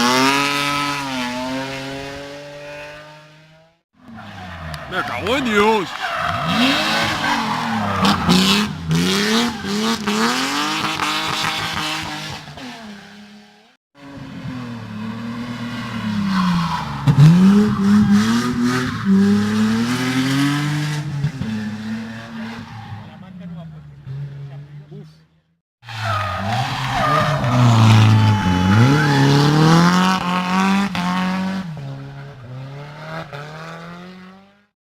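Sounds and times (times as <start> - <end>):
race car engine revving: 0.0 - 13.3, 14.0 - 24.9, 25.9 - 34.5.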